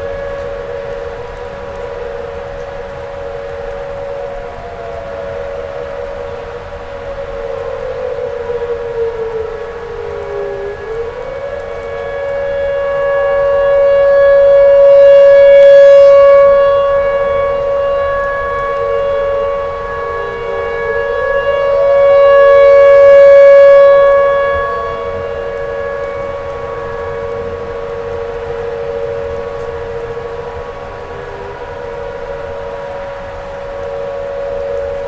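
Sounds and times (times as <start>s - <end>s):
tornado warning siren: 0.0s - 35.0s.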